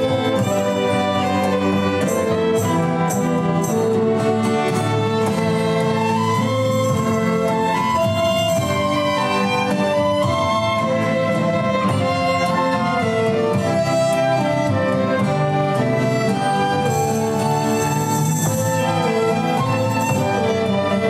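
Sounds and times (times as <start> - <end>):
early music ensemble playing: 0.0 - 21.0.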